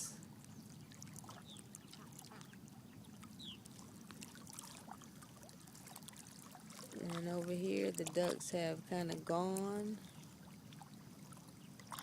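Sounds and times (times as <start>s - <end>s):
low steady rumble: 0.0s - 12.0s
water lapping and trickling: 0.0s - 12.0s.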